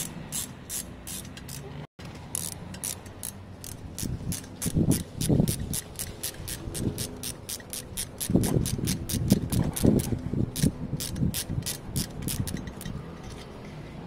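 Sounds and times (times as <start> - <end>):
hand ratchet clicking: 0.0 - 13.4.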